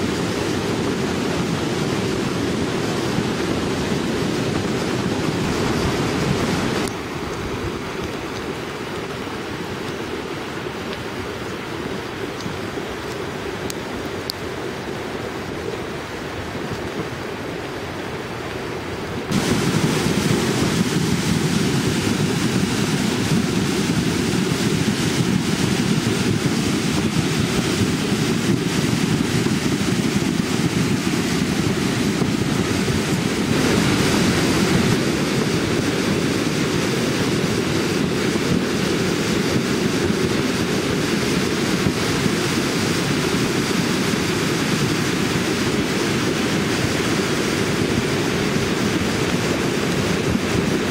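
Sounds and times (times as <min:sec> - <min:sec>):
muddy water rushing: 0:00.0 - 0:50.9.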